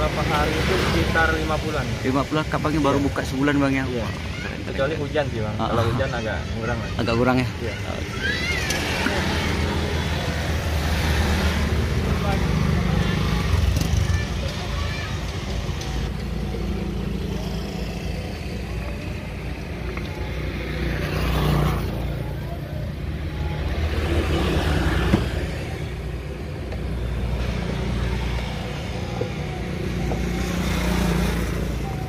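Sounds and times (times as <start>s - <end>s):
road traffic rumble: 0.0s - 32.0s
vehicles passing: 0.0s - 32.0s.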